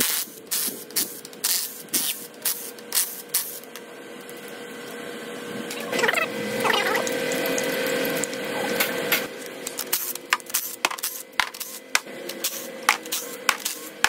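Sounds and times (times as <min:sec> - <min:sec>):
cordless power tool running: 0:00.0 - 0:14.0.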